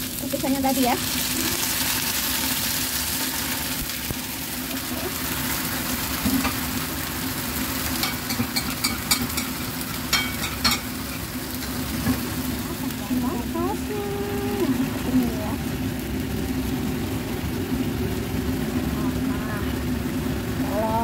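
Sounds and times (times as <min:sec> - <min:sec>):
food sizzling in frying pan: 0:00.0 - 0:21.0.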